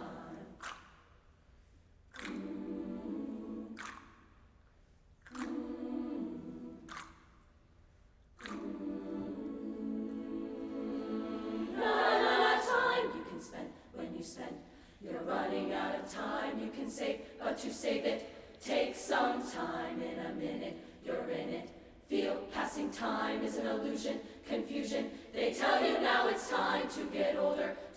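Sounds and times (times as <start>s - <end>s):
a cappella vocal harmony: 0.0s - 1.2s, 2.2s - 7.6s, 8.4s - 27.9s.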